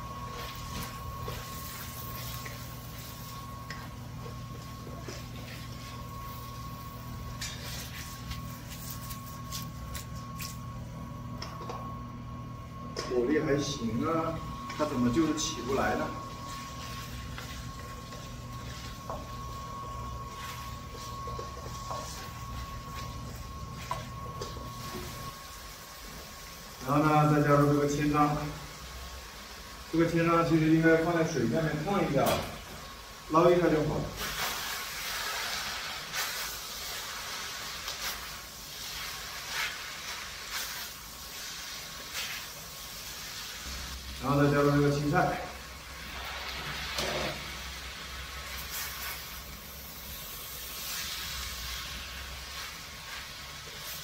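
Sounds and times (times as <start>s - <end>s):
food sizzling in a wok: 0.0s - 10.4s, 13.8s - 54.0s
blower fan hum and whine: 0.0s - 54.0s.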